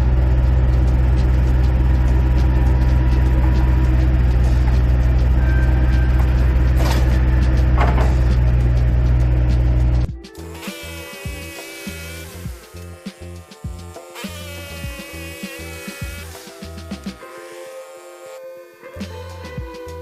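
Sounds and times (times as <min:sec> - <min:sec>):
engine running steadily: 0:00.0 - 0:17.3.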